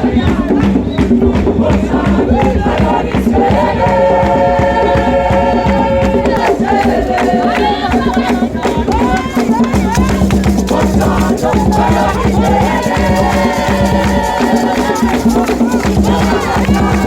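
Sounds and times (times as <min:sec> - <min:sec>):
music with singing voices: 0:00.0 - 0:17.0.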